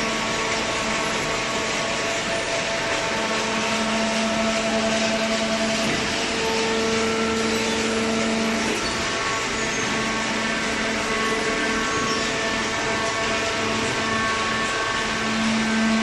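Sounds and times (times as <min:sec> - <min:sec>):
hydraulic baler running: 0:00.0 - 0:16.0.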